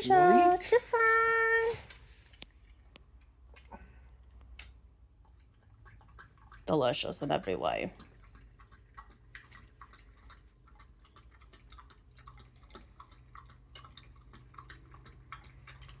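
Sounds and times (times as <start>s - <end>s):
puppy lapping from bowl: 2.7s - 16.0s.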